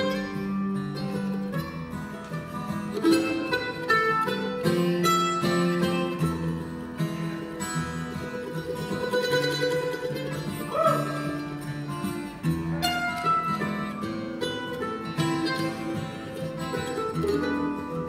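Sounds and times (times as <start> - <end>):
acoustic guitar chords: 0.0 - 18.0
mandolin plucked notes: 0.0 - 18.0.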